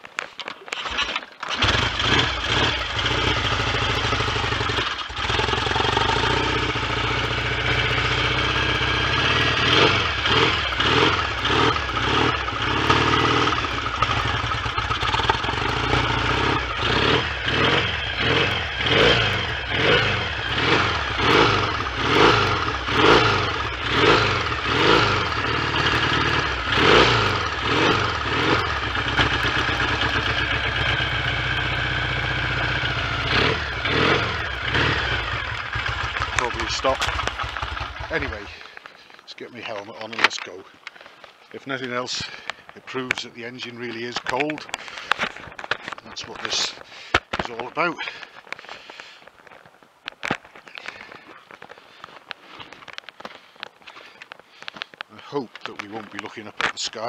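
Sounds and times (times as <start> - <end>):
motorcycle engine revving: 0.8 - 49.2, 50.7 - 57.0.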